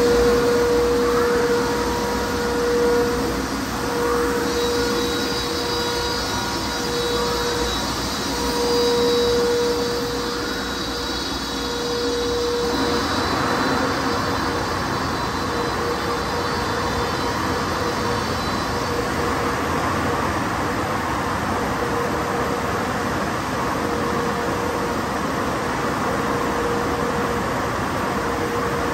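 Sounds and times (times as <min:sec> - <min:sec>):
steady motor whine: 0:00.0 - 0:28.9.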